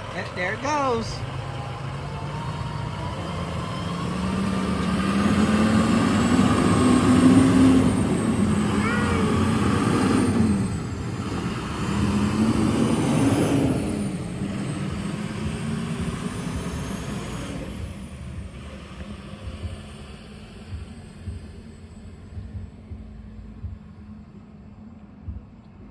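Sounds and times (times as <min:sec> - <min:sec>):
vehicle engine revving away: 0:00.0 - 0:22.6.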